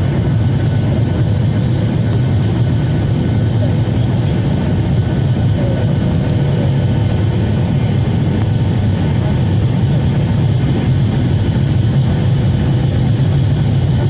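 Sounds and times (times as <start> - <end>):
jet engines droning: 0.0 - 14.0.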